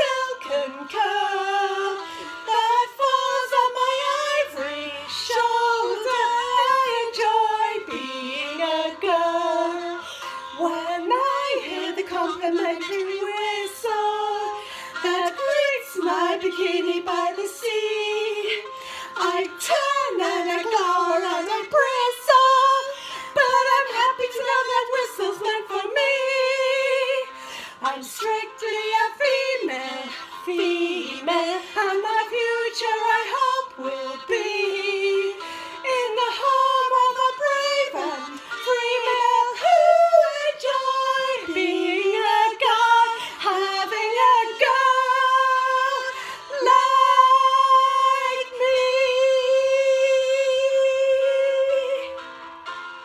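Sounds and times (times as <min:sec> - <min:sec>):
two women singing: 0:00.0 - 0:52.3.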